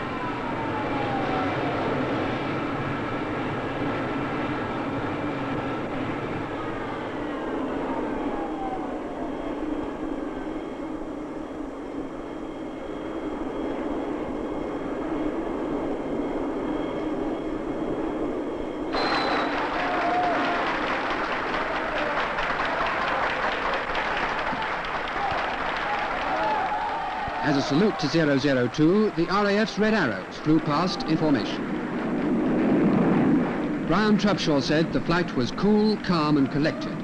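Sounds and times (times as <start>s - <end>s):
falling whine: 0.0s - 37.0s
jet engines rumbling: 0.0s - 37.0s.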